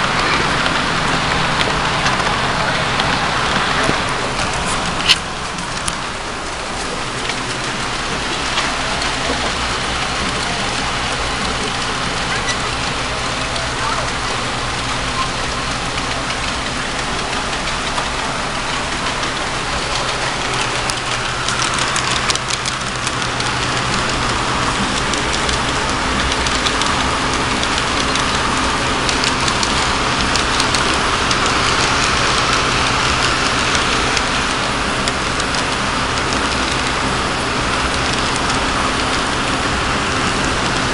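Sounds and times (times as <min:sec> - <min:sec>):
low motor hum: 0:00.0 - 0:40.9
model train rolling rattle: 0:00.0 - 0:40.9
clicks on track: 0:06.8 - 0:39.7.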